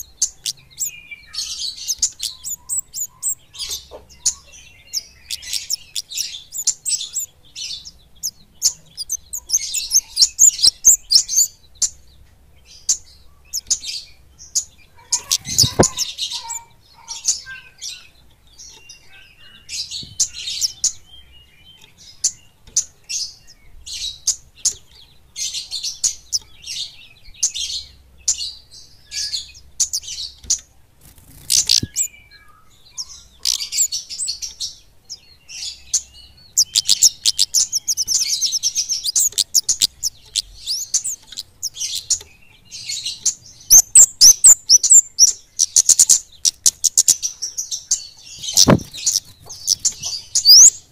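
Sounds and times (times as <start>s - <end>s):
small birds chirping and trilling: 0.0s - 50.9s.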